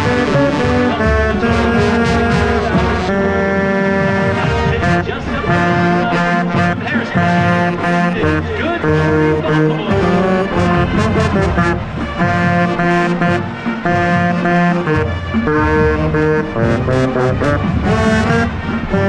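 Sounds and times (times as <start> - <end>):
marching band brass chords: 0.0 - 19.0.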